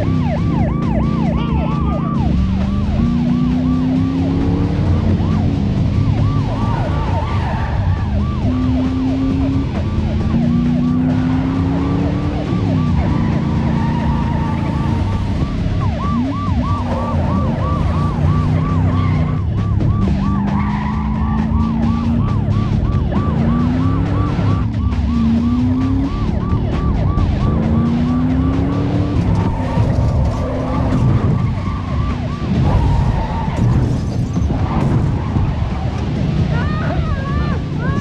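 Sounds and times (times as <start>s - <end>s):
car engines running hard: 0.0s - 38.0s
police siren yelping: 0.0s - 38.0s.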